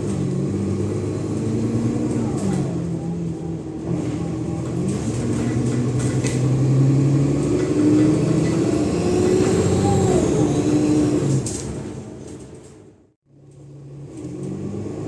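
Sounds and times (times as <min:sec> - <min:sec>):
bus diesel engine under load: 0:00.0 - 0:15.0.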